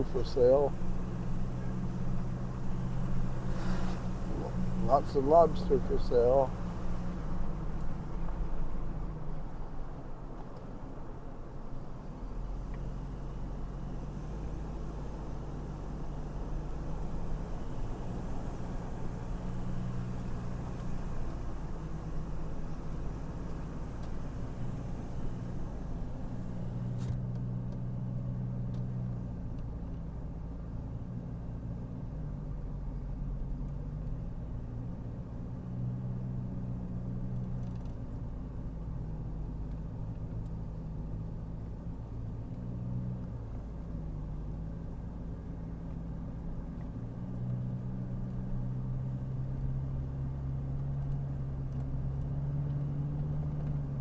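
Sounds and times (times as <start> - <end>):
car engine: 0.0 - 54.0
road rumble: 0.0 - 54.0.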